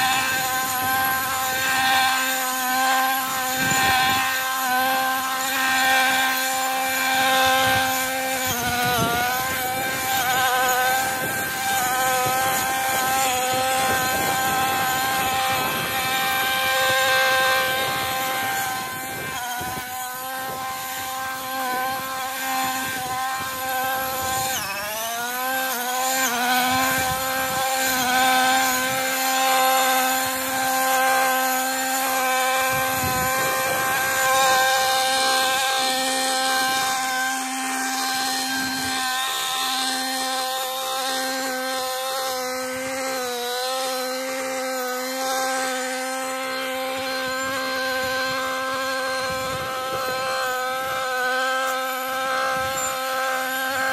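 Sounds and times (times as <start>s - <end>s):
brushcutter engine revving: 0.0s - 53.9s.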